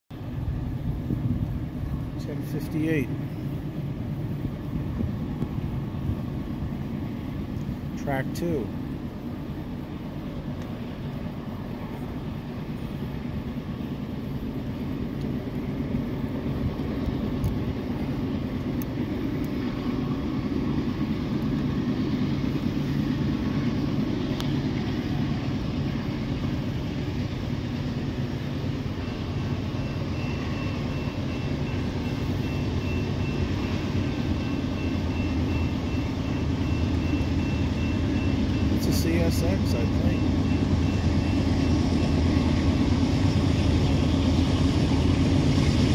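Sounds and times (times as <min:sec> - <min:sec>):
locomotive engine rumble: 0:00.1 - 0:45.9.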